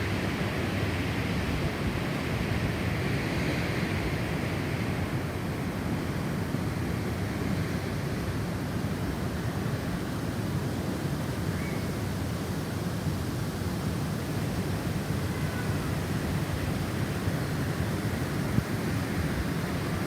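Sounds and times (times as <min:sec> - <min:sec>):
heavy snowstorm wind: 0:00.0 - 0:20.0.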